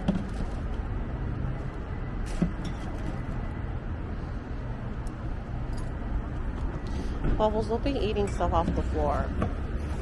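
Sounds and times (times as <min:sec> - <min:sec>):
vehicle rumbling: 0:00.0 - 0:10.0.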